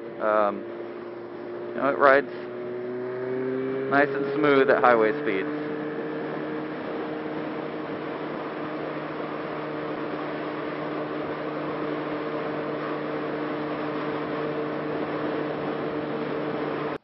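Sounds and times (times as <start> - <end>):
motorcycle engine drone: 0.0 - 17.0
wind and road noise: 0.0 - 17.0.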